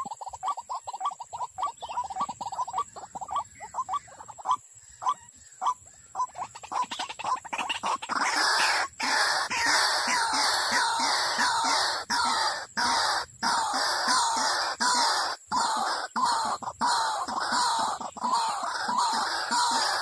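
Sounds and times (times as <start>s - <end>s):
waterhen calling: 0.0s - 20.0s.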